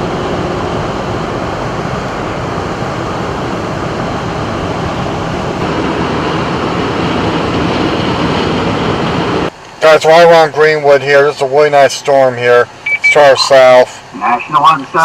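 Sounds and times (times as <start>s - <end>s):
road and wind noise inside car: 0.0s - 15.0s.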